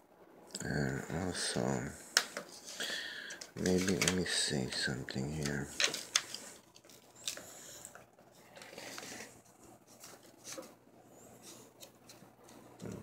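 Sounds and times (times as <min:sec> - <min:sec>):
soft rustles of books: 0:00.6 - 0:13.0.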